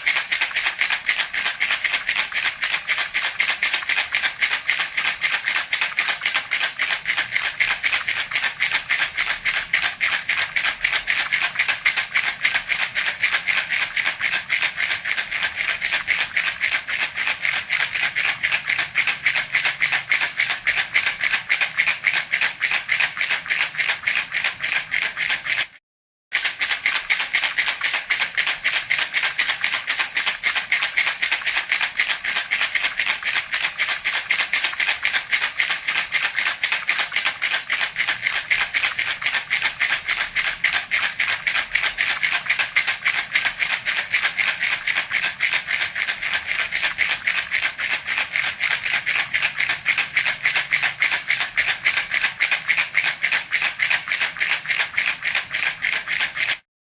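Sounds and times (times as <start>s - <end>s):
baby rattle shaken rapidly: 0.0s - 25.8s, 26.4s - 56.6s.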